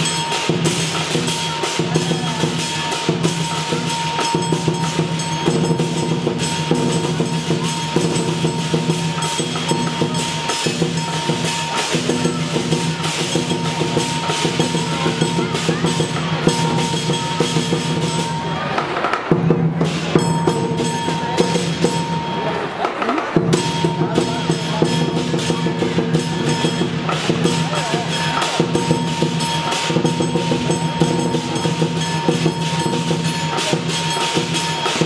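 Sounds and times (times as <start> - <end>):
ringing gong: 0.0 - 18.7, 19.9 - 22.6, 23.5 - 35.0
clashing cymbals: 0.0 - 35.0
large drum beaten: 0.0 - 35.0.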